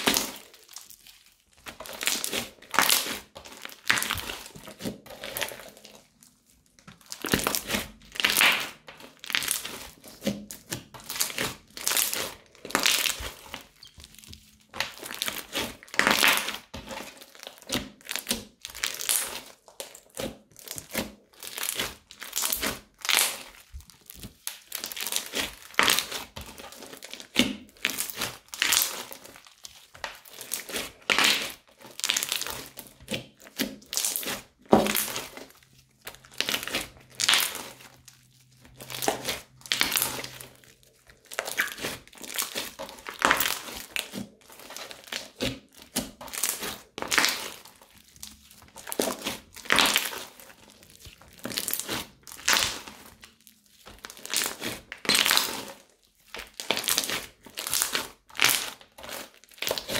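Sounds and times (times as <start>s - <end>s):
crunchy slime crackling and popping: 0.0s - 59.9s.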